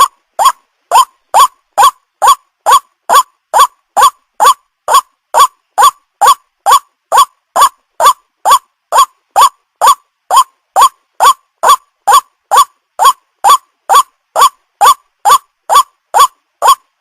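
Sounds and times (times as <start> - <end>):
waterhen call: 0.0 - 16.9.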